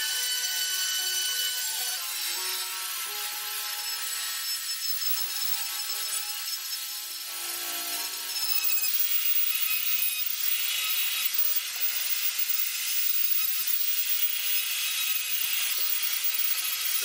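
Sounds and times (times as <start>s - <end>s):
high hissy rotary grinding: 0.0s - 17.0s
rotary tool grinding wood: 0.0s - 17.0s.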